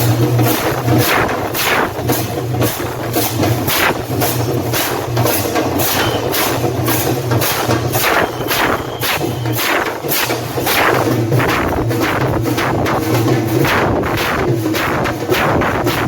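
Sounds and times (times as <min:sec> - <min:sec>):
hand cymbals clashing: 0:00.0 - 0:16.0.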